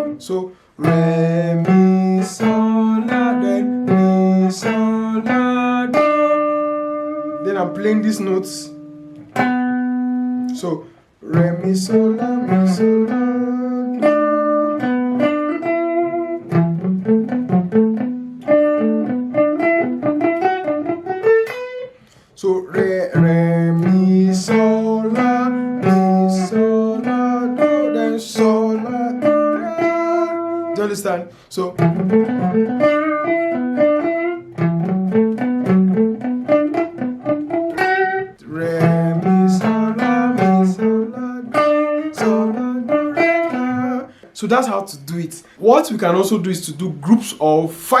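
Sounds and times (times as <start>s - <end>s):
guitar plucking single notes: 0.0s - 45.3s.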